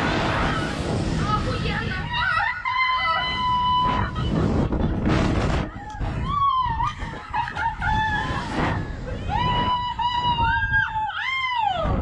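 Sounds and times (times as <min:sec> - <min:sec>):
wind rushing on microphone: 0:00.0 - 0:12.0
women screaming and laughing: 0:02.0 - 0:12.0.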